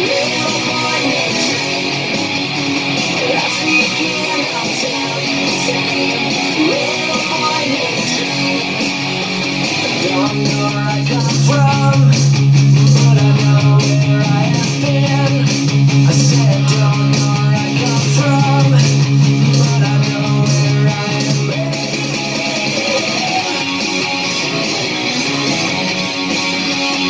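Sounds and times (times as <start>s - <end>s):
electric guitar strumming rock chords: 0.0s - 27.0s.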